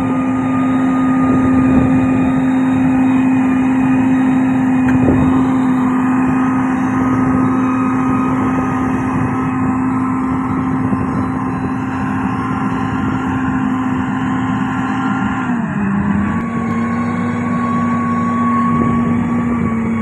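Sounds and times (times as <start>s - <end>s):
diesel engine hum: 0.0s - 20.0s.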